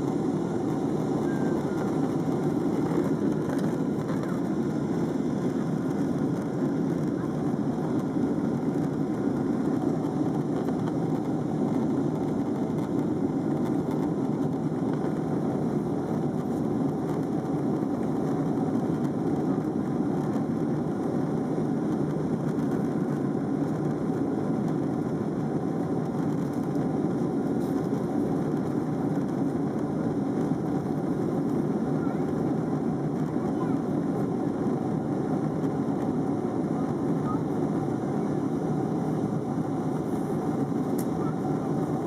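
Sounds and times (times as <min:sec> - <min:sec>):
jet airliner cabin rumble: 0:00.0 - 0:42.0.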